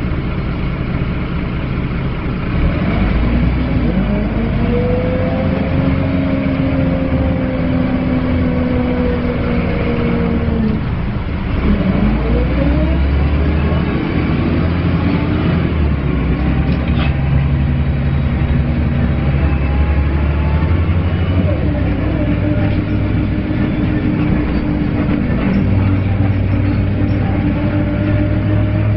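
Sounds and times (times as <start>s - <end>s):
bus drivetrain whine: 0.0s - 28.9s
bus engine low rumble: 0.0s - 28.9s.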